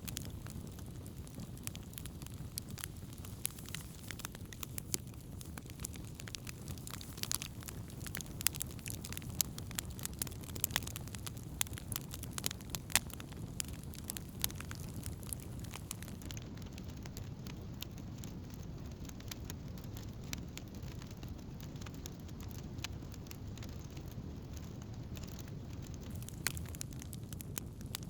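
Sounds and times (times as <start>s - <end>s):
campfire crackles and pops: 0.0s - 28.0s
fire steady low rush: 0.0s - 28.0s.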